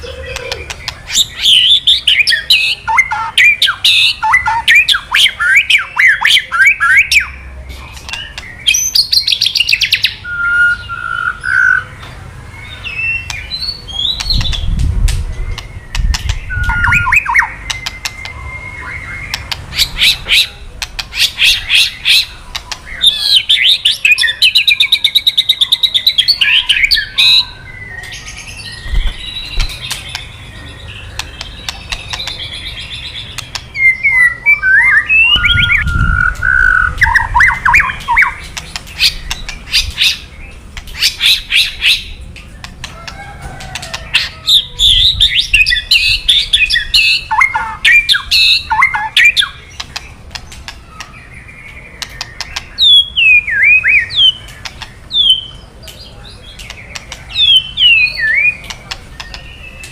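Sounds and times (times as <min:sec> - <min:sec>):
bird whistling and trilling: 0:00.0 - 0:07.4, 0:08.1 - 0:11.9, 0:12.6 - 0:22.3, 0:22.9 - 0:40.3, 0:43.6 - 0:49.8, 0:50.9 - 0:55.6.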